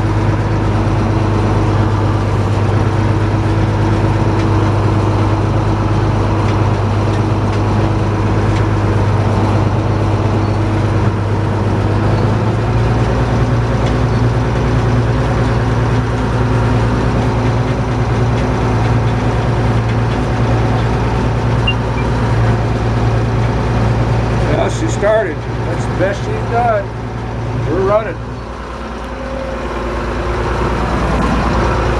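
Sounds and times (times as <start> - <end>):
tractor engine running under load: 0.0 - 31.9.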